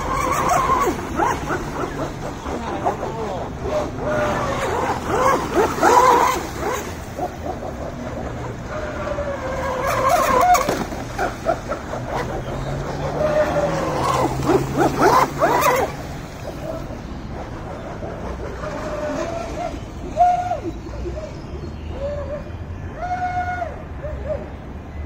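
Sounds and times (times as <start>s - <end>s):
rc boat electric motor whining: 0.0s - 21.6s.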